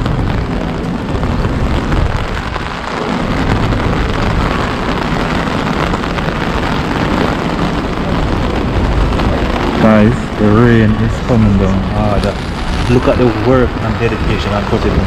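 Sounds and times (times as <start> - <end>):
heavy rain hissing: 0.0 - 15.0
low rumble: 0.0 - 15.0.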